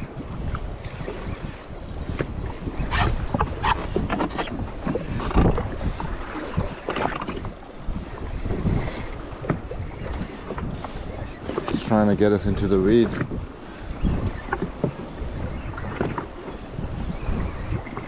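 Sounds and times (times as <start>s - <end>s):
water splashing against a hull: 0.0s - 18.0s.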